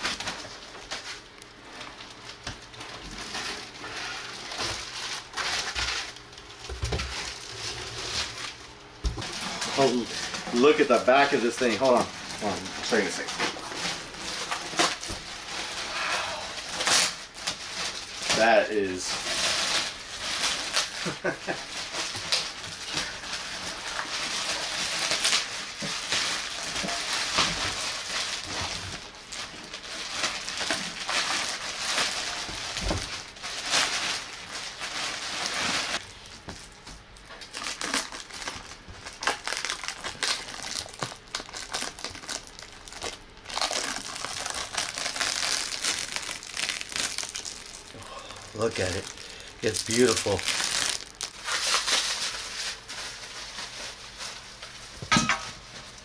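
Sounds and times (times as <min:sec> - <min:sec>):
plastic bags crinkling: 0:00.0 - 0:56.0.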